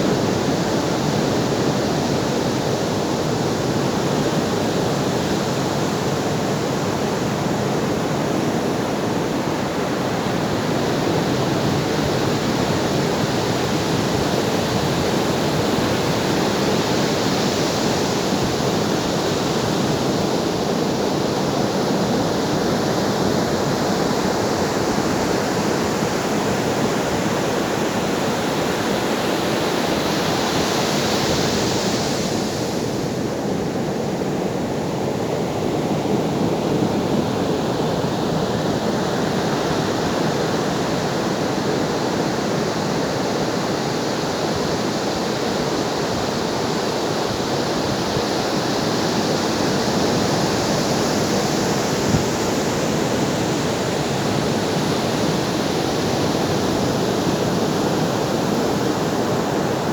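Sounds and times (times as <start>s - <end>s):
ocean surf on shore: 0.0s - 59.9s.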